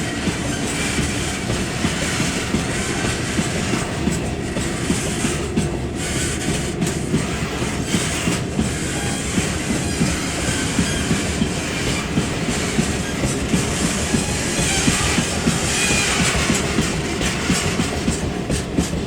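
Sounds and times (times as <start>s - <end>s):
model train rolling rumble: 0.0s - 19.0s
wheels clicking over rail joints: 0.0s - 19.0s.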